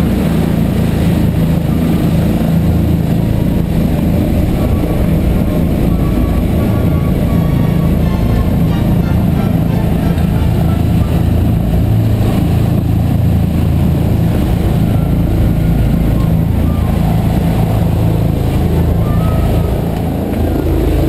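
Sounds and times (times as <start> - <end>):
helicopter hovering overhead: 0.0 - 21.0.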